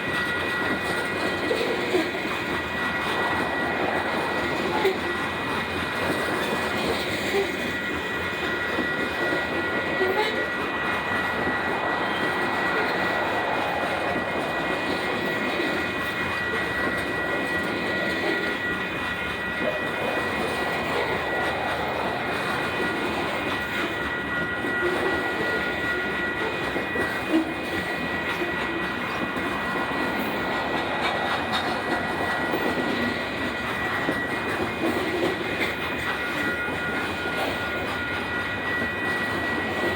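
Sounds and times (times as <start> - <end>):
freight train rolling past: 0.0 - 39.9
high-pitched whine: 0.1 - 39.9.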